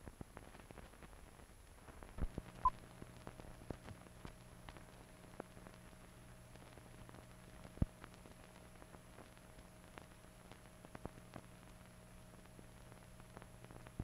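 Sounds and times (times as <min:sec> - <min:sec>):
film soundtrack hiss and hum: 0:00.0 - 0:14.0.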